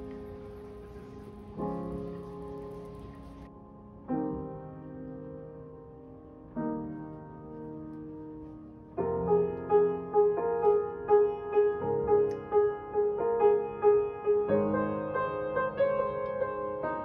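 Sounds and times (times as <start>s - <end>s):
upright piano chords: 0.0s - 17.0s.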